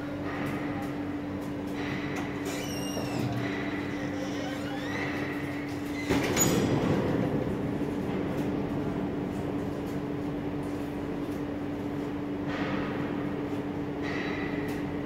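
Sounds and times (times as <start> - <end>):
low machine hum: 0.0 - 15.0
rumbling background noise: 0.0 - 15.0.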